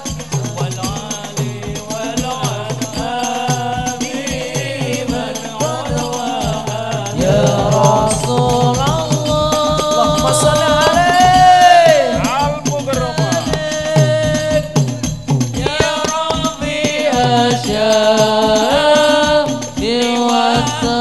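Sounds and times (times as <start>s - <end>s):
frame drums beaten fast: 0.0s - 21.0s
voices singing: 0.8s - 21.0s.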